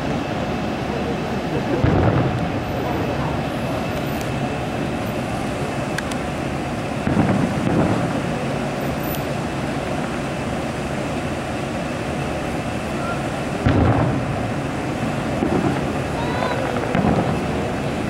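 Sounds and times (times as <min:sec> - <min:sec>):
background rumble and hiss: 0:00.0 - 0:18.0
distant fireworks booms: 0:00.0 - 0:18.0.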